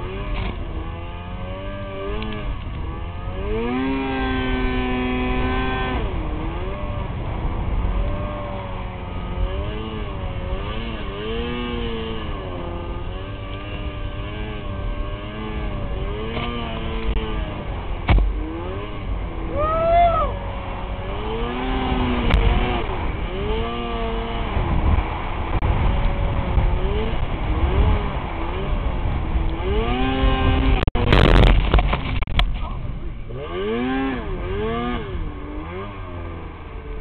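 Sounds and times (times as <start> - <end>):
snowmobile engine revving: 0.0 - 37.0.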